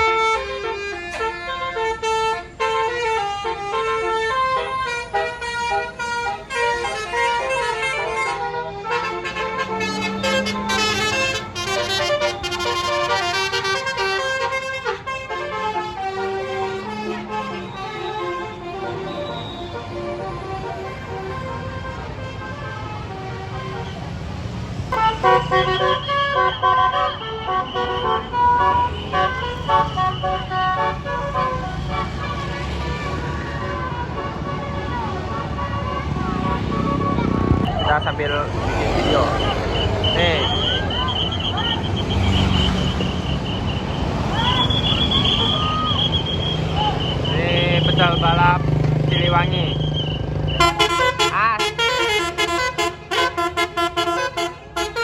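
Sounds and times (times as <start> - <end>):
electric bus horn melody: 0.0 - 37.9, 38.8 - 55.0.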